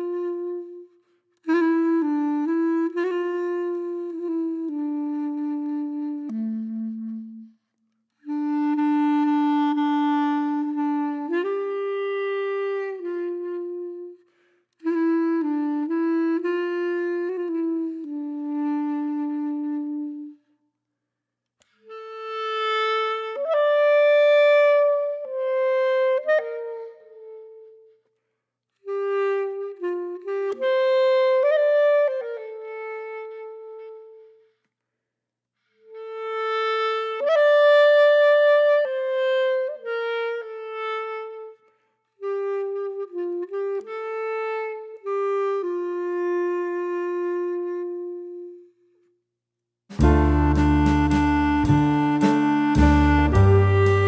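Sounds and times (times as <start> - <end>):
woodwind melody: 0.0 - 20.7, 21.6 - 34.8, 35.6 - 49.2, 49.9 - 54.0.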